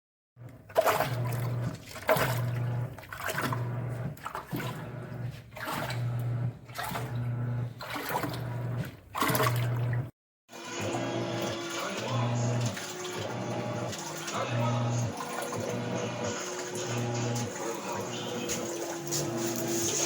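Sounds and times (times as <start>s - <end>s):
water sloshing in tub: 0.4s - 10.1s, 10.8s - 20.0s
washing machine motor humming: 0.4s - 20.0s.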